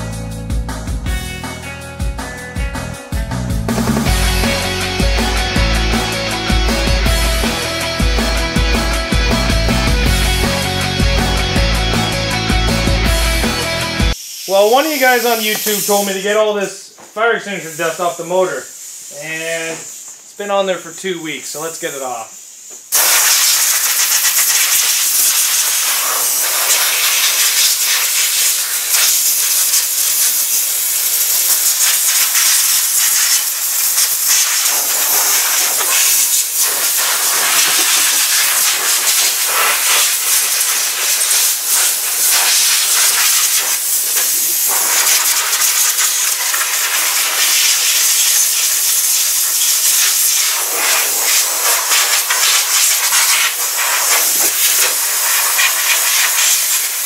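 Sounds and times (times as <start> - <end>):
compressed air blow gun hissing: 3.7 - 16.4, 18.7 - 20.3, 22.3 - 57.0.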